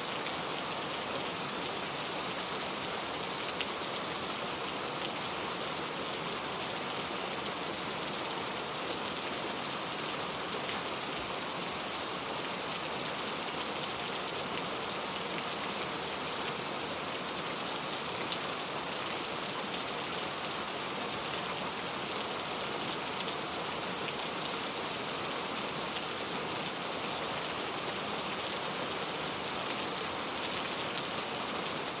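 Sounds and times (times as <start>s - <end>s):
steady rainfall: 0.0s - 32.0s.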